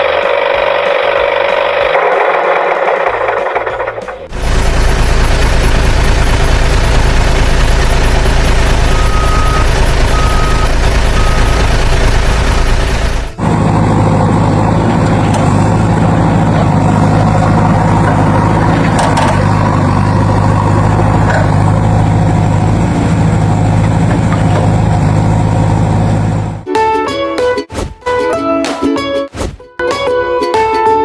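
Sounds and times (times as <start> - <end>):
heavy vehicle engine idling: 0.0 - 26.6.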